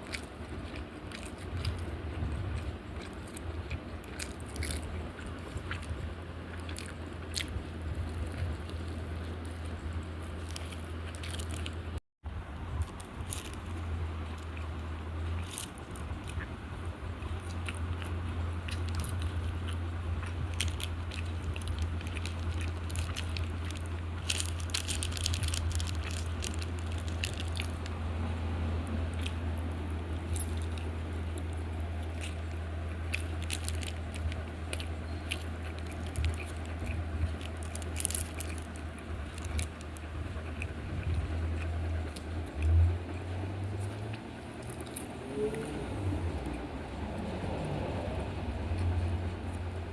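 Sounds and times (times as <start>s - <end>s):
crisp crunches: 0.0s - 12.0s, 12.8s - 48.0s
person chewing food: 0.0s - 12.0s, 12.7s - 49.9s
steady low hum: 0.0s - 49.9s.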